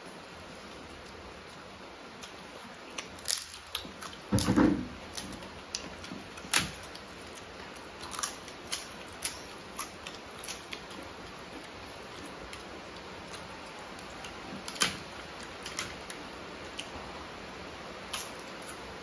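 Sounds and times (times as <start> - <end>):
crisp papad being chewed: 0.5 - 17.2, 18.0 - 19.0.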